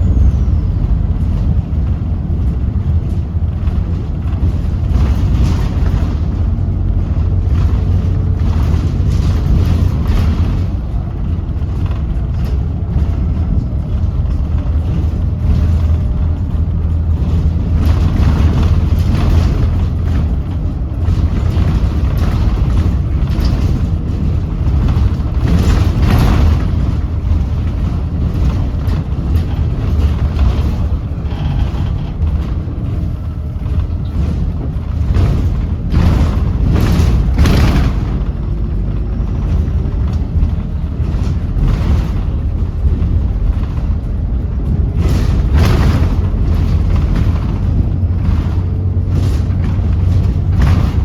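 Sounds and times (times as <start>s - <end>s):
diesel bus engine rumble: 0.0s - 51.0s
road noise: 0.0s - 51.0s.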